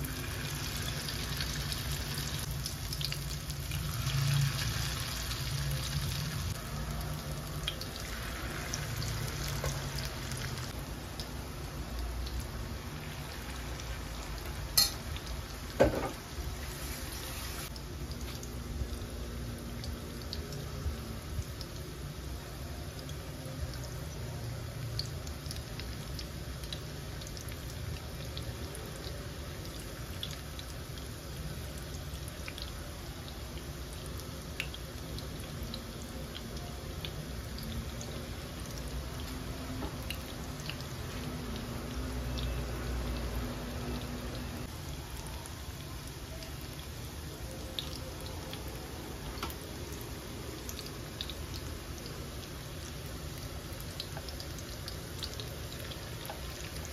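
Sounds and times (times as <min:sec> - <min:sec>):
food deep-frying in oil: 0:00.0 - 0:56.9.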